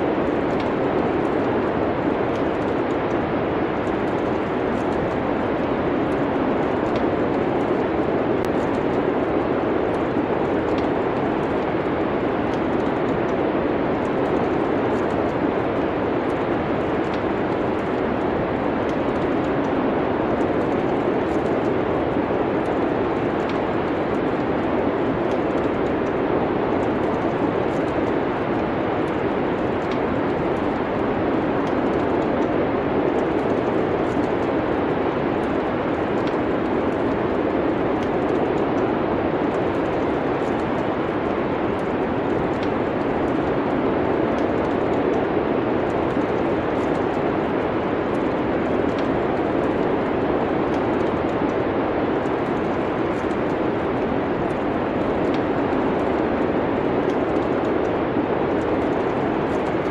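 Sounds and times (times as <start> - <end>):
storm wind: 0.0 - 59.9
wood fire crackling: 0.0 - 59.9.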